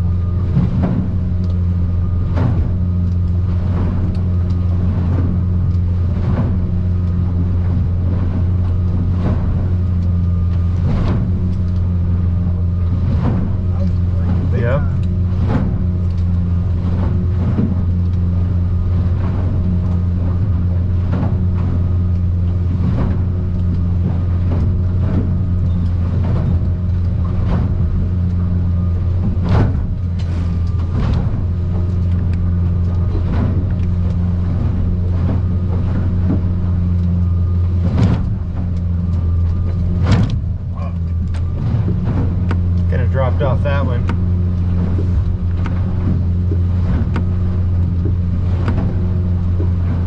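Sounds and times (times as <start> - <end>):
hull slamming through swells: 0.0 - 50.0
outboard motor droning: 0.0 - 50.0.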